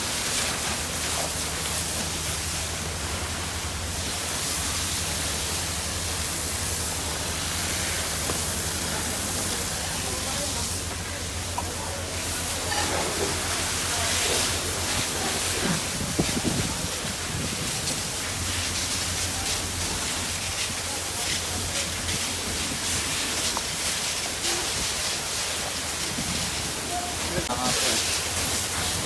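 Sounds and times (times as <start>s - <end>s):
water spraying from fire hose: 0.0s - 29.0s.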